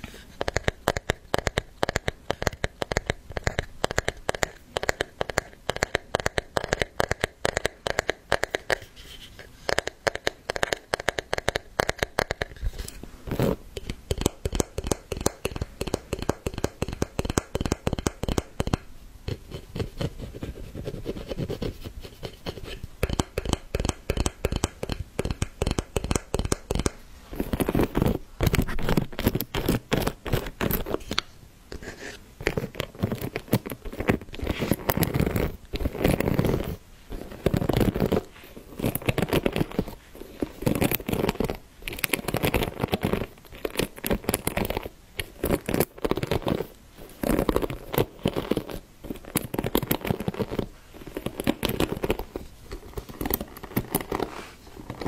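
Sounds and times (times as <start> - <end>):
rapid scratching and tapping: 0.0 - 55.0.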